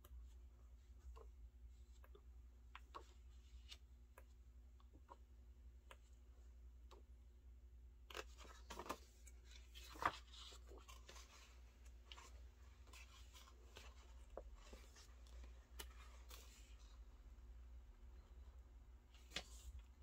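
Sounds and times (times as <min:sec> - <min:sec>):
book pages turned by hand: 0:00.0 - 0:07.1, 0:08.0 - 0:20.0
low steady hum: 0:00.0 - 0:20.0.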